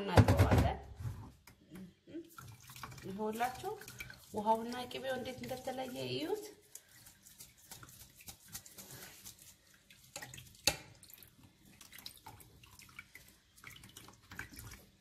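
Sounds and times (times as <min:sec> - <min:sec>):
water dripping and trickling: 0:01.4 - 0:15.0.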